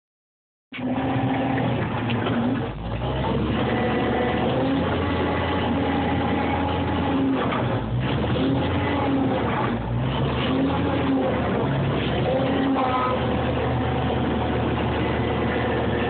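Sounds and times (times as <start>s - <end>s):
diesel engine running: 0.7s - 16.0s.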